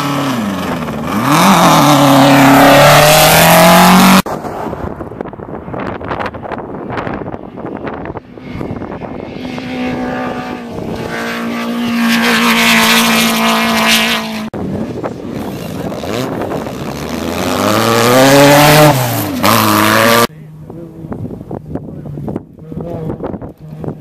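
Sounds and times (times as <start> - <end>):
race buggy engines revving: 0.0 - 24.0.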